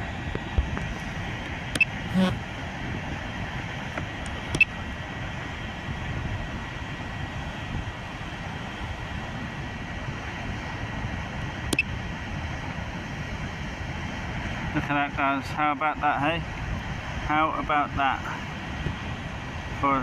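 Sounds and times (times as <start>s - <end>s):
steady rushing outdoor noise: 0.0s - 20.0s.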